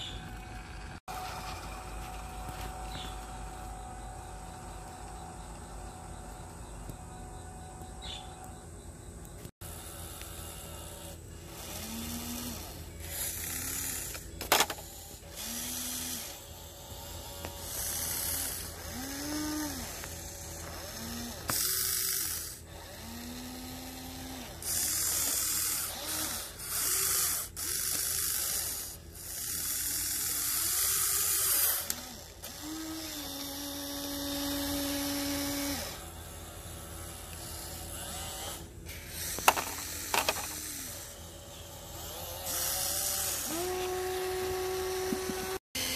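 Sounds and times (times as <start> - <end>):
electric gear motors whining: 0.0 - 45.9.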